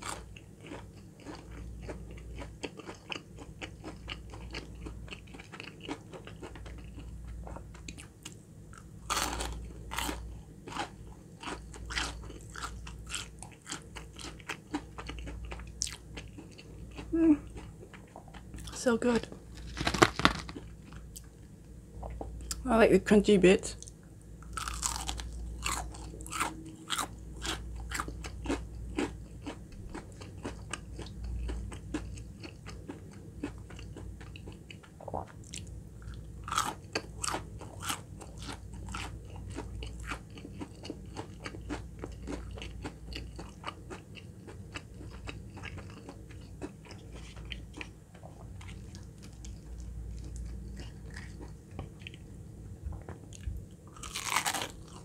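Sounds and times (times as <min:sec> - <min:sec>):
crunching fried chicken: 0:00.0 - 0:21.2, 0:24.4 - 0:52.2, 0:53.2 - 0:55.0
soft chewing: 0:00.0 - 0:22.6, 0:23.8 - 0:55.0.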